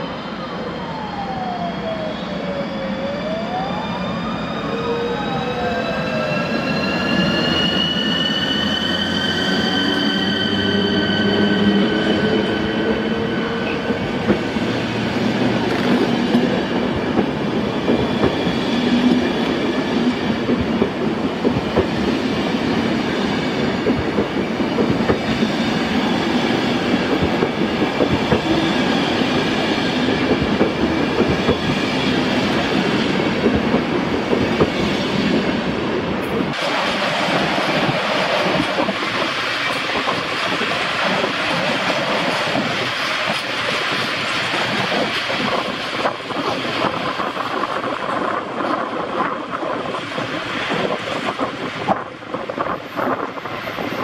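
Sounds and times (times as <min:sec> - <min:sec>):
electric train whine: 0:00.0 - 0:54.0
train coaches rumbling: 0:00.0 - 0:54.0.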